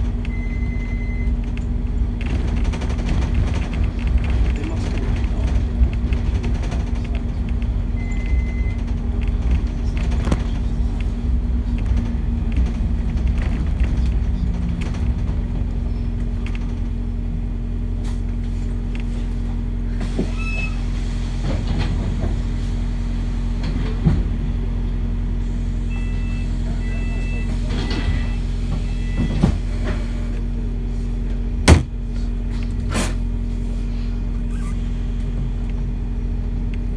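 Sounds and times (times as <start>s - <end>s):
bus drivetrain hum and rumble: 0.0s - 36.9s.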